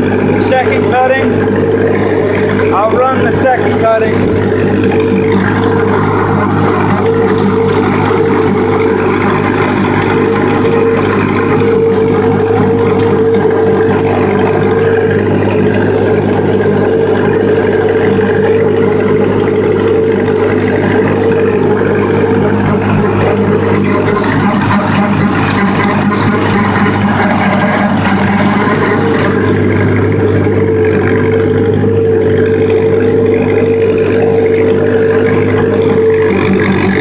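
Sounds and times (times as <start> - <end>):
tractor engine droning under load: 0.0 - 37.0.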